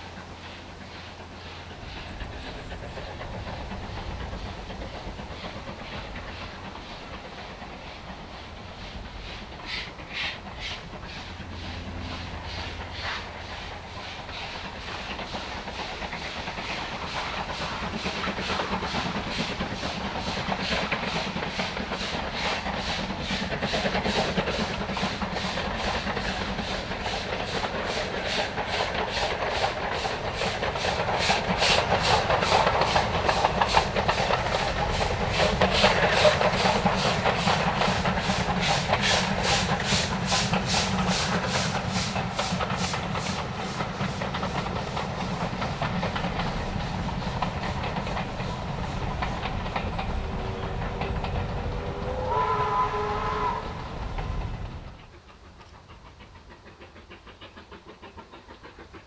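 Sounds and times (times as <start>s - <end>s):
steam hissing: 0.0s - 59.0s
steam locomotive exhaust chuffs: 0.0s - 59.0s.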